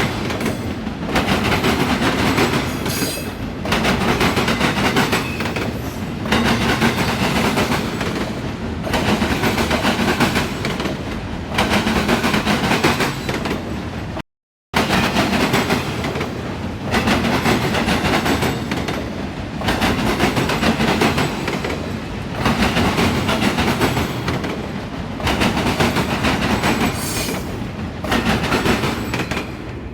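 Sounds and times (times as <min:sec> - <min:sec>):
freight train wheels clacking on rails: 0:00.0 - 0:14.2, 0:14.8 - 0:29.9.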